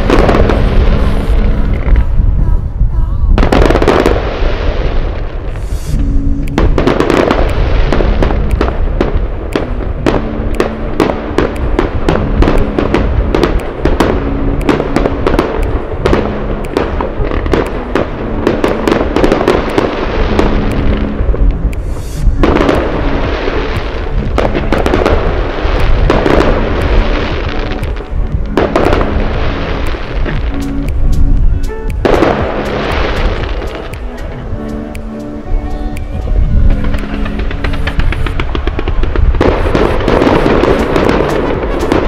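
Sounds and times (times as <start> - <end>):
fireworks banging and crackling: 0.0 - 2.0, 3.4 - 35.2, 36.0 - 42.0
background music with low notes: 0.0 - 42.0.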